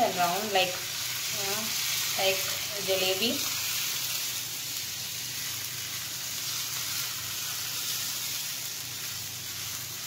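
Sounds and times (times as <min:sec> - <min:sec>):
batter sizzling on a hot griddle: 0:00.0 - 0:10.0.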